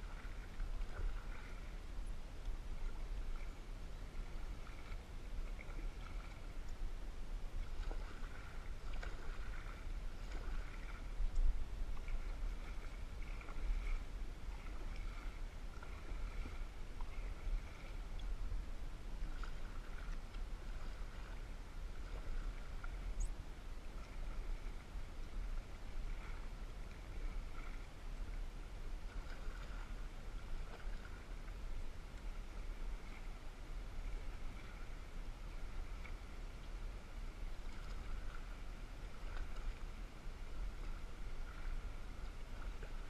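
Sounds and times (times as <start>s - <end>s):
paddle strokes swishing and dripping: 0.0s - 43.0s
steady low rumble: 0.0s - 43.0s.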